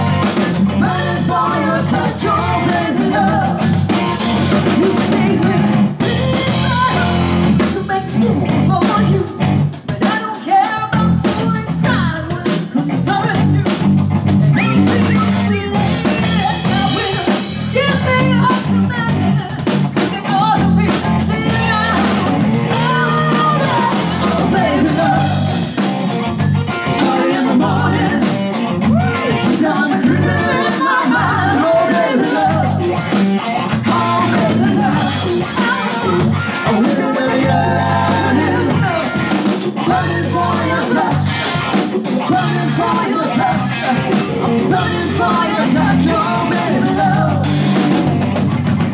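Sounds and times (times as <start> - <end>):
electric bass: 0.0 - 10.1, 10.7 - 48.9
woman singing lead: 0.0 - 48.2
drum kit: 0.0 - 48.9
electric guitar: 0.0 - 48.9.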